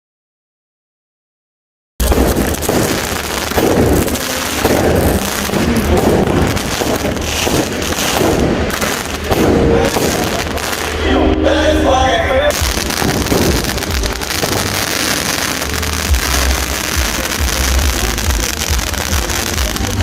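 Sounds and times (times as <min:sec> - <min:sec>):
fireworks and firecracker bangs: 0:02.0 - 0:11.1, 0:12.4 - 0:20.0.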